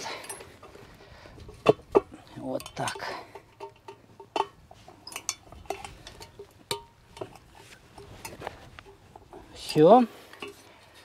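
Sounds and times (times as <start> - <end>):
metal clinks and knocks: 0.0 - 11.0.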